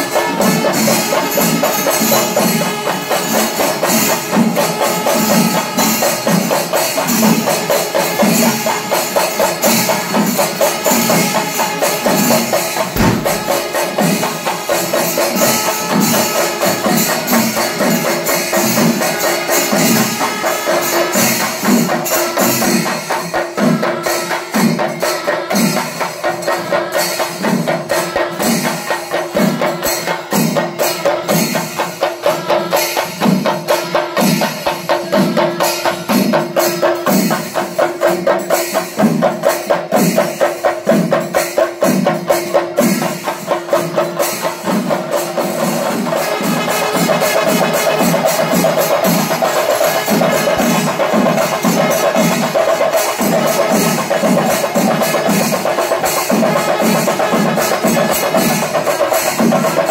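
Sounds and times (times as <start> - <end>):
drums beaten with sticks: 0.0 - 20.4, 21.0 - 59.9.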